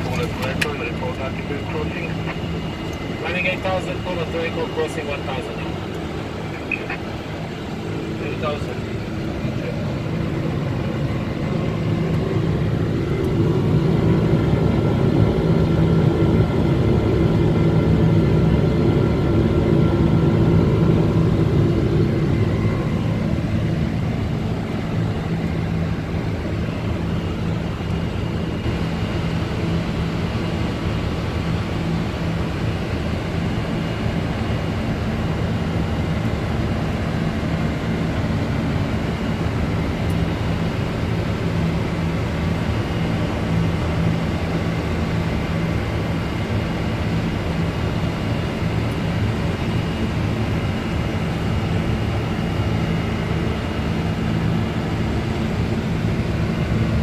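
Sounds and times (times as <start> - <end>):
airplane cockpit engine and airflow noise: 0.0 - 57.0.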